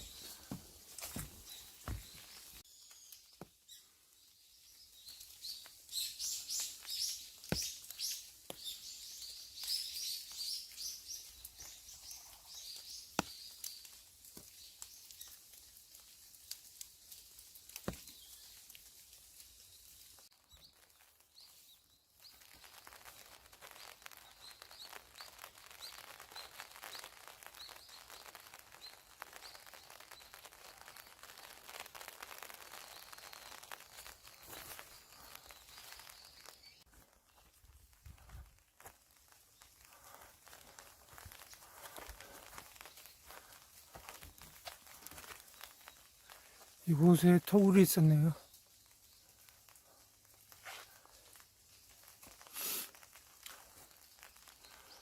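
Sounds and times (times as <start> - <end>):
small birds chirping: 0.0 - 16.6, 17.8 - 38.5, 39.2 - 55.0.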